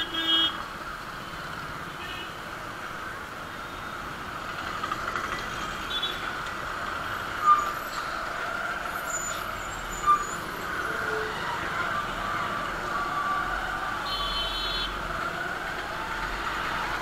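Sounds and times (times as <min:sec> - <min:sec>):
busy road traffic: 0:00.0 - 0:17.0.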